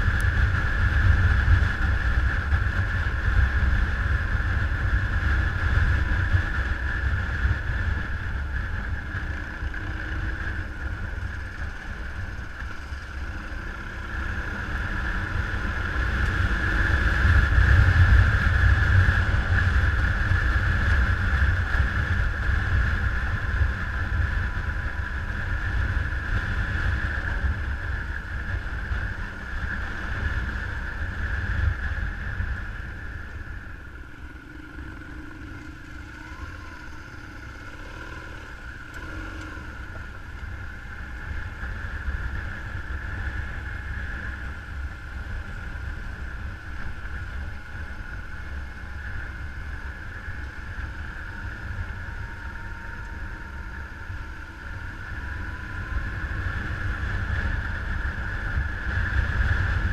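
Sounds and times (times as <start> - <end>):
motorcycle engine running: 0.0 - 59.9
wind rumbling on microphone: 0.0 - 59.9.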